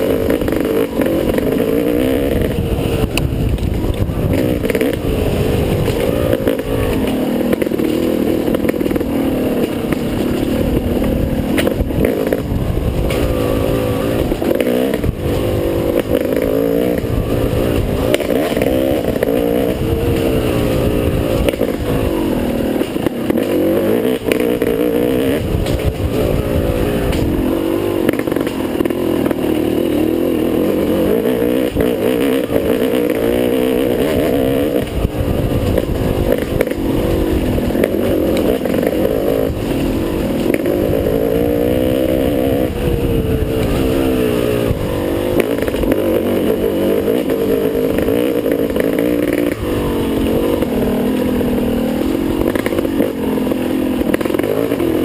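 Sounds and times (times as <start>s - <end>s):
bike knocks and clatter: 0.0s - 51.3s
dirt bike engine revving: 0.0s - 55.0s.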